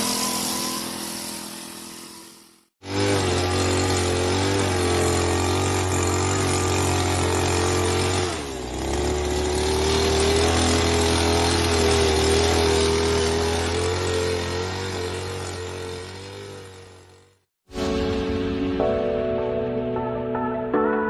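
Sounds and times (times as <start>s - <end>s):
brush cutter engine running: 0.0s - 17.4s.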